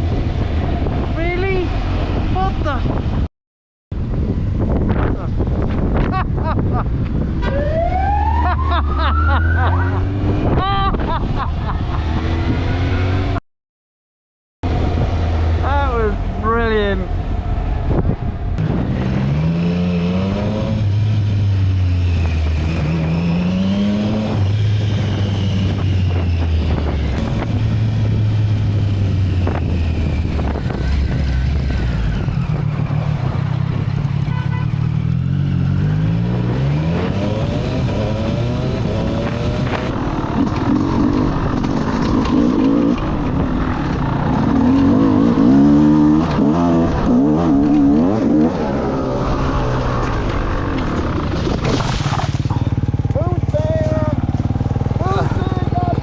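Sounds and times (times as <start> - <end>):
road and wind noise: 0.0 - 3.3, 3.9 - 13.4, 14.6 - 56.0
motorcycle engine accelerating: 7.1 - 13.4, 14.6 - 56.0.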